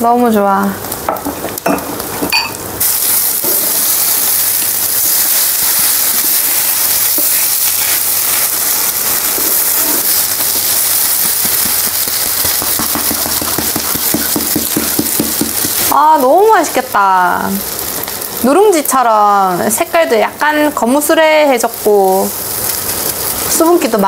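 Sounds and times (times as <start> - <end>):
food sizzling in a hot pan: 0.1 - 24.0.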